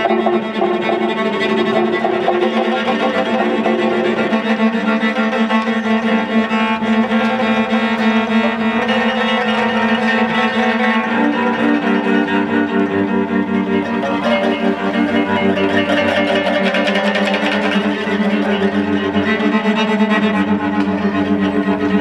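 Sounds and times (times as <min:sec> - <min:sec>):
cello bowing low tones: 0:00.0 - 0:22.0
plucked string notes: 0:00.0 - 0:22.0.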